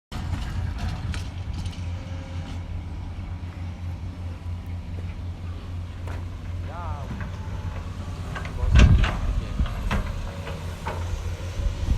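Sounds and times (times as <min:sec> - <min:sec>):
diesel engine rumbling: 0:00.1 - 0:11.9.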